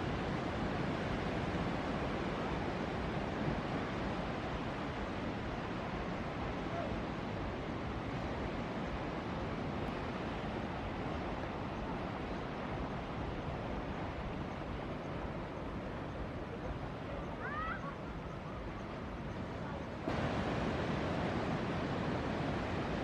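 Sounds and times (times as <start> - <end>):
ocean surf rushing: 0.0 - 23.0.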